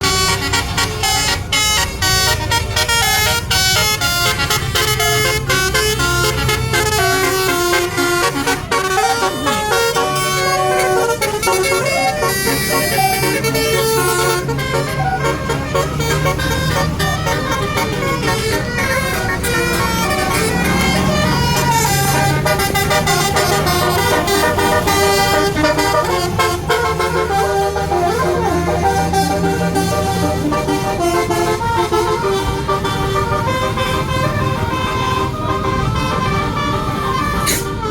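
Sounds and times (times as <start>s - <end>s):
musical air horn melody: 0.0s - 37.9s.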